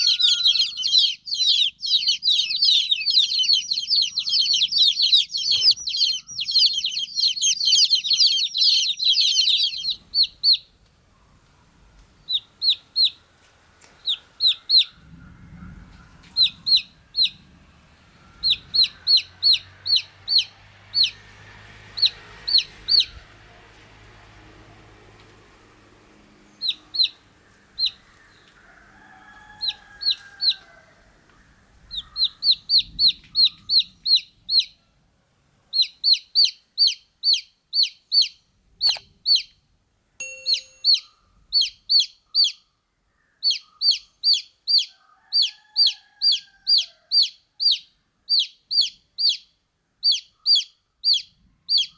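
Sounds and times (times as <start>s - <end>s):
baby chicks peeping: 0.0s - 10.8s, 12.2s - 23.4s, 26.5s - 34.8s, 35.7s - 39.6s, 40.2s - 42.6s, 43.4s - 51.9s.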